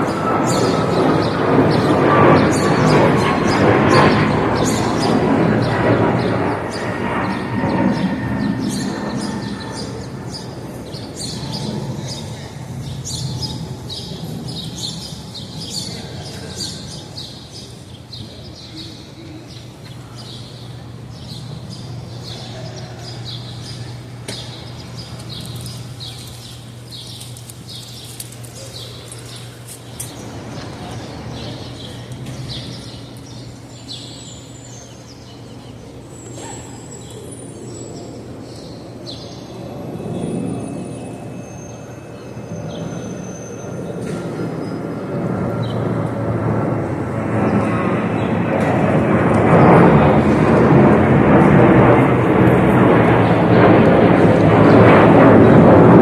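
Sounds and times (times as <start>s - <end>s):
small birds chirping: 0.0s - 46.0s
city background hum: 0.0s - 56.0s.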